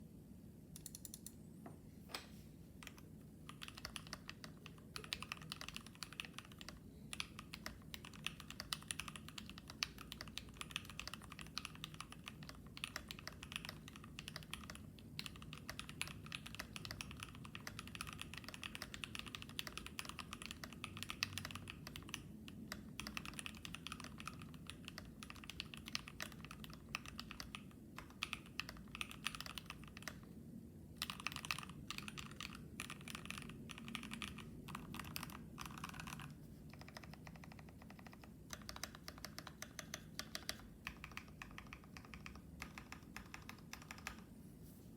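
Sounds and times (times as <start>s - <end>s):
typing on mechanical keyboard: 0.8s - 1.4s, 2.8s - 30.3s, 31.0s - 44.3s.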